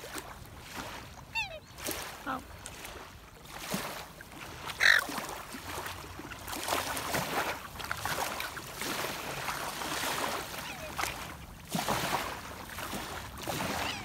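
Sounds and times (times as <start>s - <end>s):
waves lapping on sandy shore: 0.0s - 14.0s.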